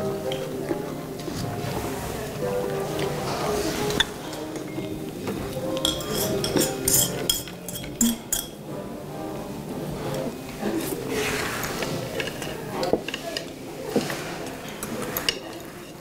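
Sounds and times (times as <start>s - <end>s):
utensils clinking on plates: 0.0s - 8.7s, 10.0s - 16.0s
background music: 0.0s - 16.0s.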